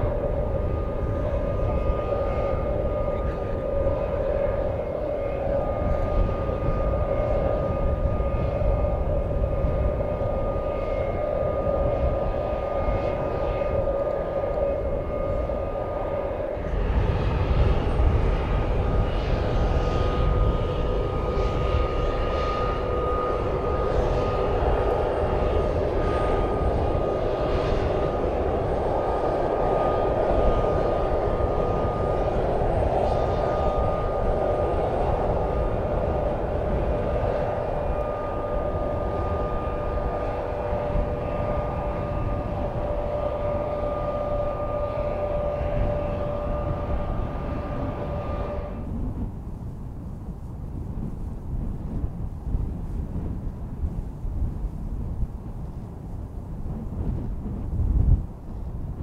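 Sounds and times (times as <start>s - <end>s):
jet engine whine: 0.0s - 59.0s
low engine rumble: 0.0s - 59.0s.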